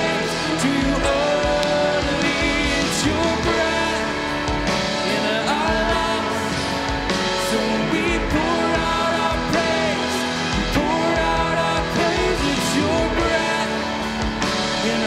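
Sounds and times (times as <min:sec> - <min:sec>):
person singing: 0:00.0 - 0:15.0
worship band playing: 0:00.0 - 0:15.0.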